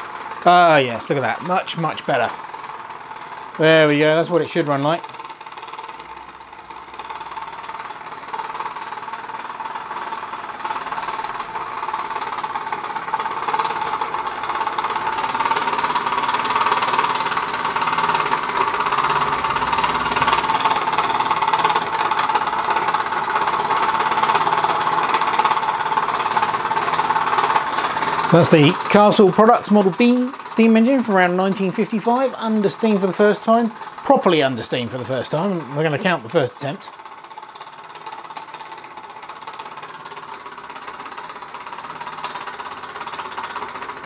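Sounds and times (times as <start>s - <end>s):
toy steam engine running fast: 0.0s - 44.0s.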